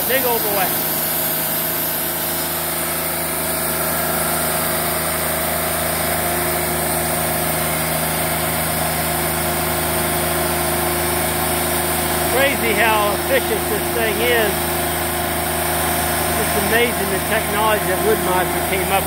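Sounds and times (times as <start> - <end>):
sawmill diesel engine humming: 0.0 - 19.0.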